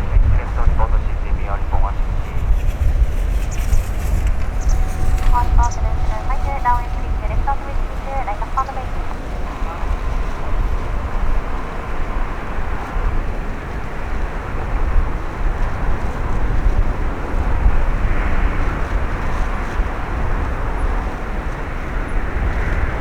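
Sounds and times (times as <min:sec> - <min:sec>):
jet engine noise: 0:00.0 - 0:23.0
wind rumble on microphone: 0:00.0 - 0:23.0.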